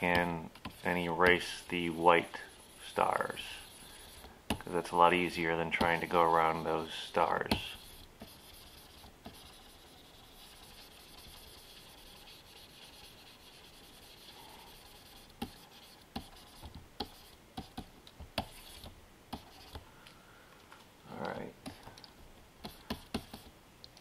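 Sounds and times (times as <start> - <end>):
stylus scratching on screen: 0.0 - 19.8, 21.2 - 23.5.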